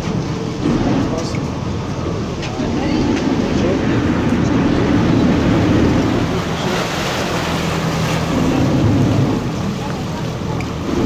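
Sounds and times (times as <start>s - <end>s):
boat engine humming: 0.0s - 11.0s
water rushing along hull: 0.0s - 11.0s
wind on microphone: 0.0s - 11.0s.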